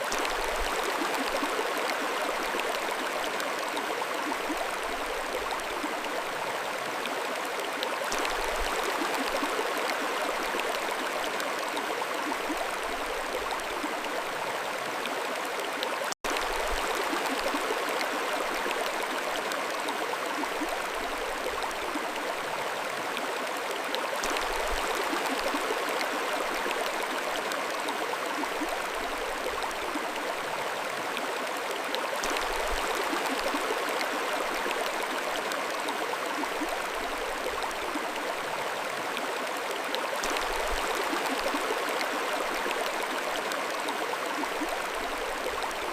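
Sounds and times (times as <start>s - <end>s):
mountain stream flowing: 0.0s - 45.9s.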